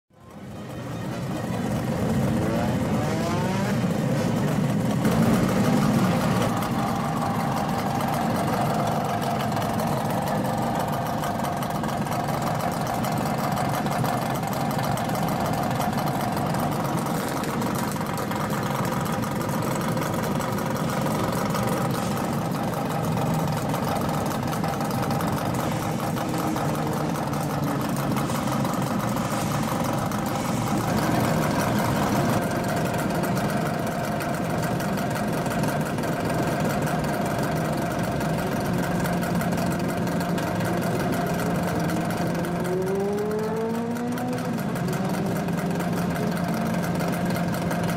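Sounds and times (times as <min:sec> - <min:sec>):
motorcycle engines idling and revving: 0:00.2 - 0:47.9.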